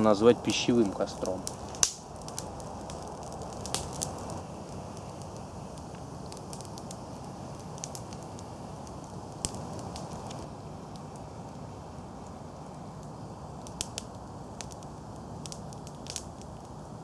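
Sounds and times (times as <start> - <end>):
campfire flame hiss: 0.0 - 17.0
fire crackling and popping: 0.0 - 17.0.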